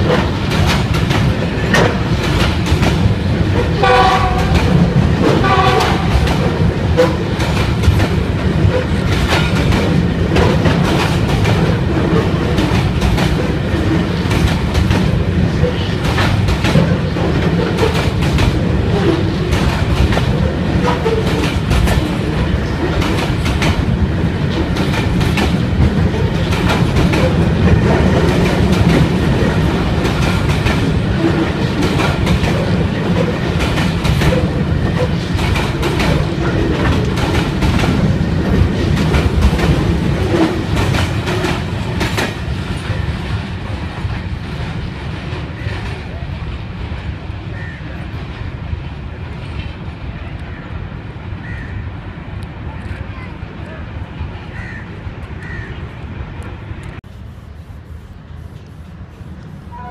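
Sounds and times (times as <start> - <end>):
train wheels clattering over rail joints: 0.0 - 48.3.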